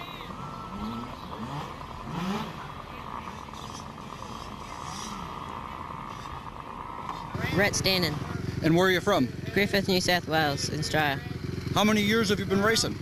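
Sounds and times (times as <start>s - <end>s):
steady background drone: 0.0s - 11.8s
distant motorcycle engines revving: 0.0s - 13.0s.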